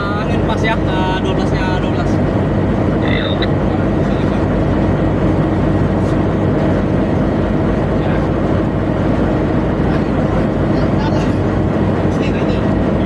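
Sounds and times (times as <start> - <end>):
diesel machinery droning: 0.0 - 13.0.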